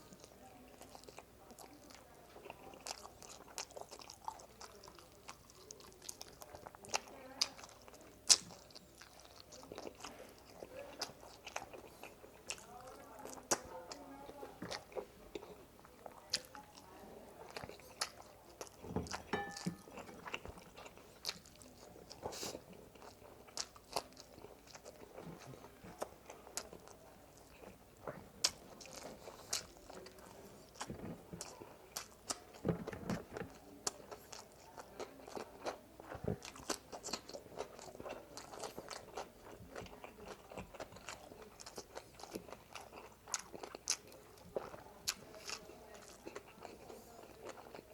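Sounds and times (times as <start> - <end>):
crunchy chewing: 0.0 - 47.9.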